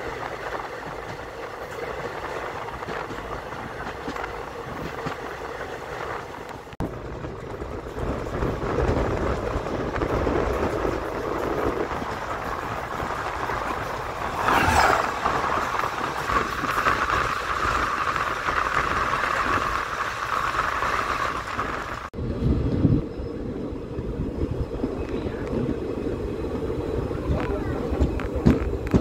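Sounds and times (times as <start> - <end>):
passing locomotive rush: 0.0 - 29.0
train running rumble: 0.0 - 29.0.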